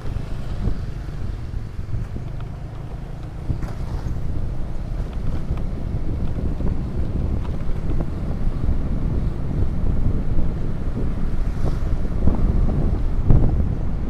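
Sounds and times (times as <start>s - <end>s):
motorcycle engine and road rumble: 0.0s - 14.0s
wind buffeting microphone: 0.0s - 14.0s.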